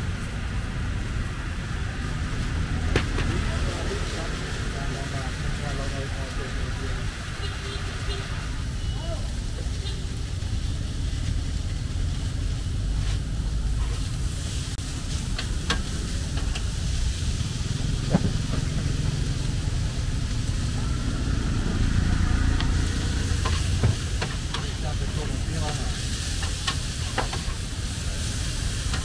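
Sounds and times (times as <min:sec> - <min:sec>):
street traffic rumble: 0:00.0 - 0:29.0
noodles sizzling in a pan: 0:00.1 - 0:29.0.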